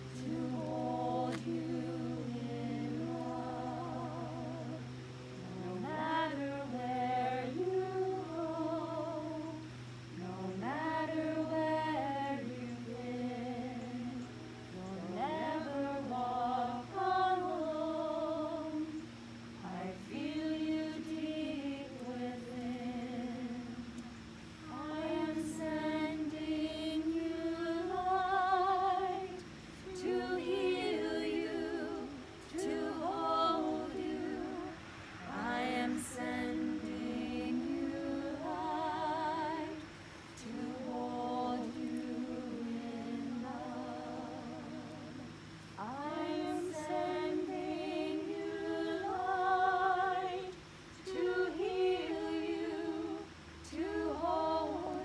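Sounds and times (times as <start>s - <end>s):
women's choir singing a cappella: 0.0s - 55.0s.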